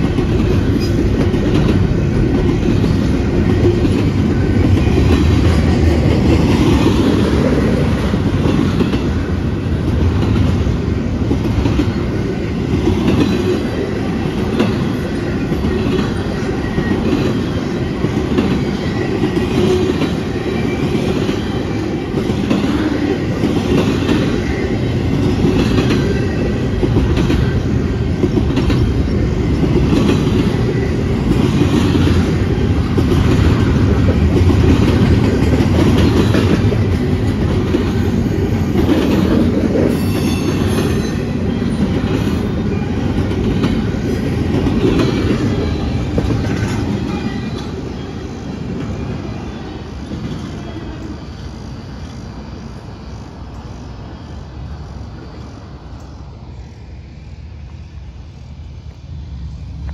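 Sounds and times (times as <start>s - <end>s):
clickety-clack of wheels: 0.0s - 49.4s
freight train wheels rumbling on rail: 0.0s - 59.9s.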